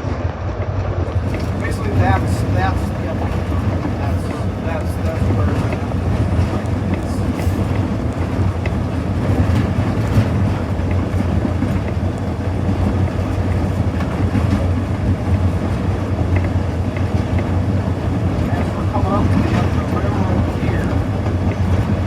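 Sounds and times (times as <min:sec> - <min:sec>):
diesel locomotive engine drone: 0:00.0 - 0:22.0
wheels clicking on rails: 0:01.0 - 0:22.0.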